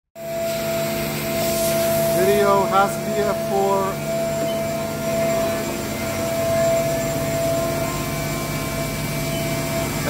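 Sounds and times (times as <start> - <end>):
high whine: 0.2 - 10.0
machine low hum: 0.2 - 10.0.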